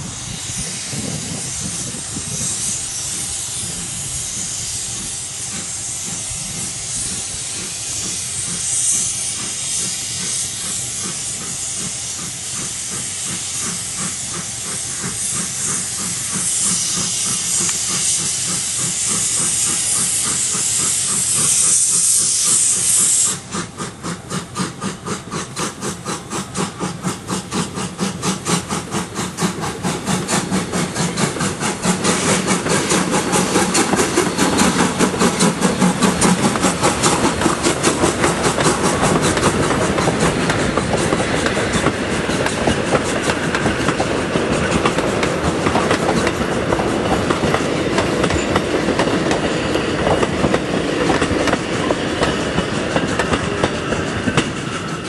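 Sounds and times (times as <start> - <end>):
carriages clickety-clack on rails: 0.0 - 55.0
steam hissing from locomotive: 0.0 - 55.0
steam locomotive exhaust chuffs: 0.0 - 55.0.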